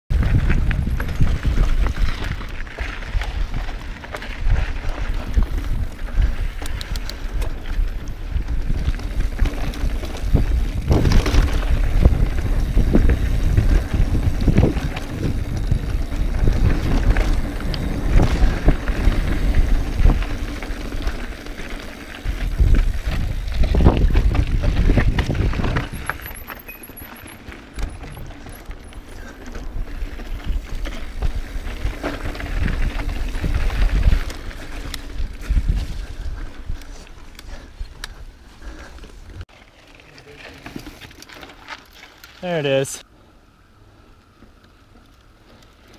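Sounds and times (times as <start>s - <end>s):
wind on microphone: 0.1s - 21.4s, 22.2s - 26.4s, 27.8s - 39.4s
bike tyres rumbling: 0.1s - 45.9s.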